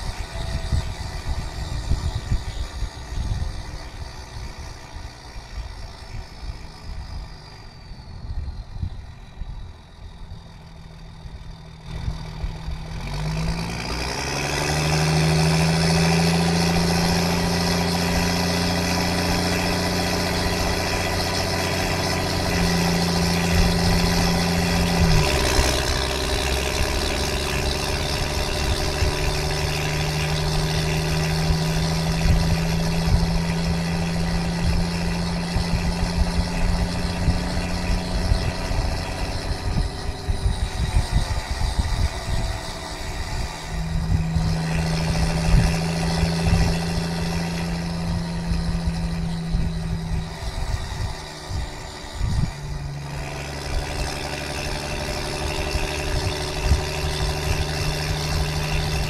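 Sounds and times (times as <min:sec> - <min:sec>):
diesel truck exhaust: 0:00.0 - 0:59.0.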